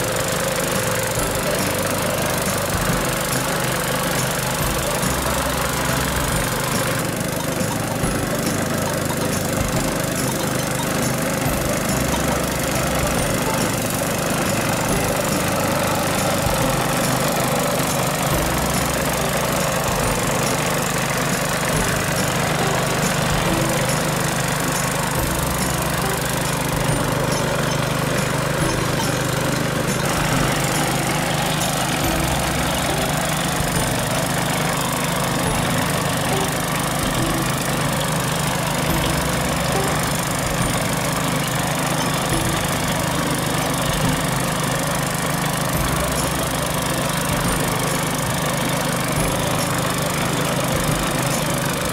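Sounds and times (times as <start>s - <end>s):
mower engine cutting grass: 0.0s - 51.9s.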